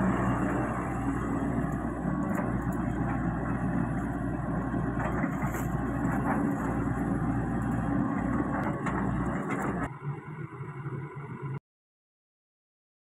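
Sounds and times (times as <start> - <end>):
excavator diesel engine running: 0.0 - 11.6.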